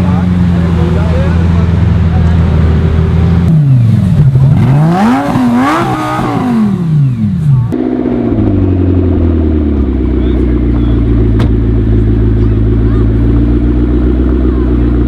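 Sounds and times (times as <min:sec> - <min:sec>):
supercar engine revving: 0:00.0 - 0:15.0.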